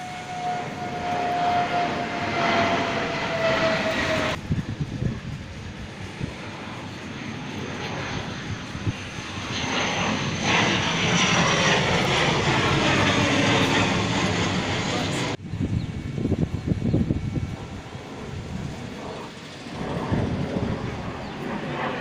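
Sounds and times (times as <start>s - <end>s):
jet engine whine: 0.0s - 22.0s
jet engines roaring overhead: 0.0s - 22.0s.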